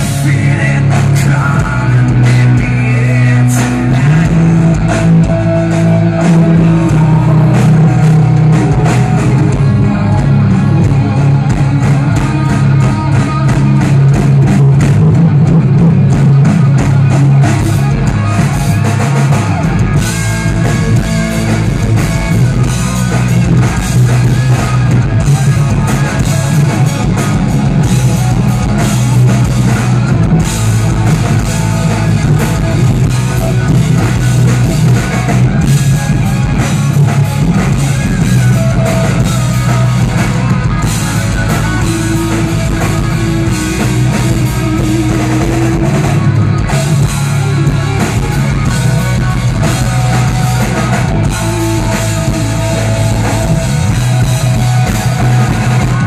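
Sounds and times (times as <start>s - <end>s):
drum kit: 0.0s - 56.0s
electric guitar: 0.0s - 56.0s.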